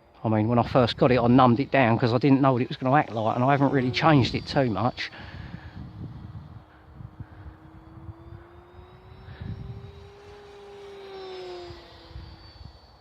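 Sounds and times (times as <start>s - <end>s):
model jet electric motor whining: 0.0s - 13.0s
wind rumbling on microphone: 0.6s - 10.9s, 11.6s - 13.0s.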